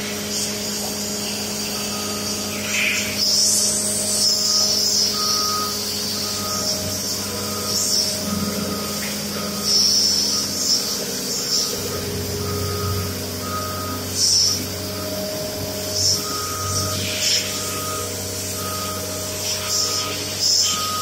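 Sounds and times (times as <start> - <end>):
machine hum: 0.0 - 21.0
back-up alarm beeping: 3.2 - 21.0.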